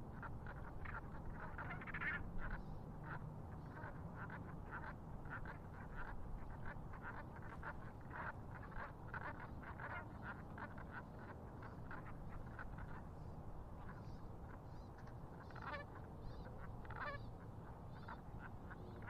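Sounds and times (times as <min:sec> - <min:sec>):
water birds calling: 0:00.0 - 0:19.0.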